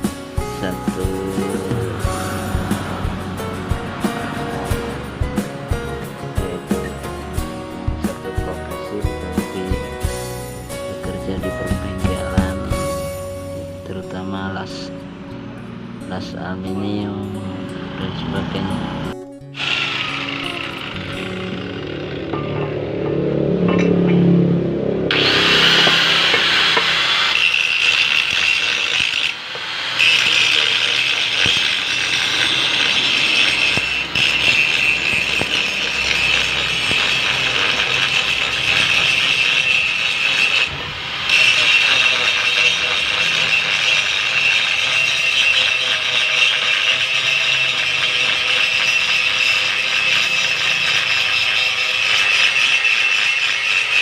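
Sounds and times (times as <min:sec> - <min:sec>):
power grinder grinding metal: 0:00.0 - 0:54.0.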